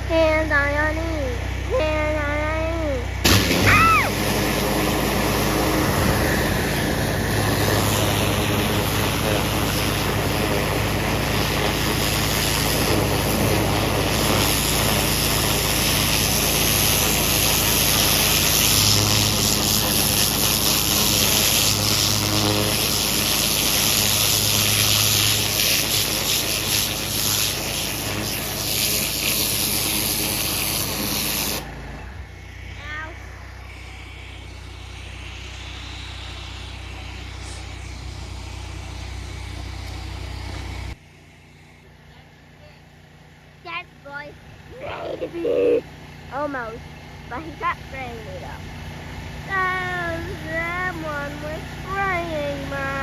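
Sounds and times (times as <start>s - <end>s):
pressure washer engine humming: 0.0s - 53.0s
high-pressure water spray hissing: 3.2s - 31.8s, 32.4s - 40.9s, 47.4s - 53.0s.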